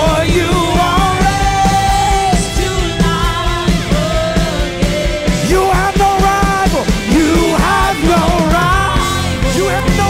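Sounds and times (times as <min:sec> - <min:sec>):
group singing worship song: 0:00.0 - 0:10.0
instrumental backing with steady beat: 0:00.0 - 0:10.0.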